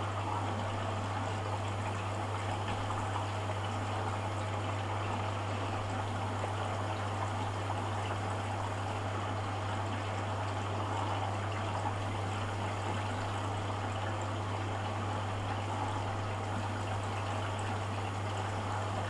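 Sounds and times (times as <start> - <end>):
washing machine low hum: 0.0 - 19.0.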